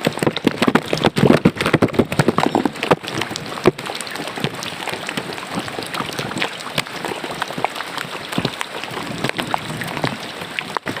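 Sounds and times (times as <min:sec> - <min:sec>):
rain splashing into ditch water: 0:00.0 - 0:11.0
water drips: 0:00.0 - 0:11.0.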